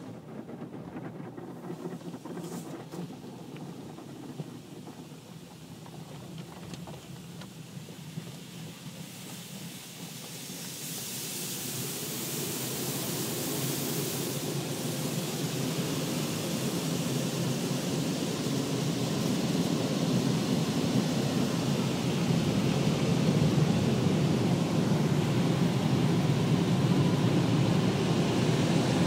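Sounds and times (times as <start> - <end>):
car wash water spraying: 1.6 - 29.0.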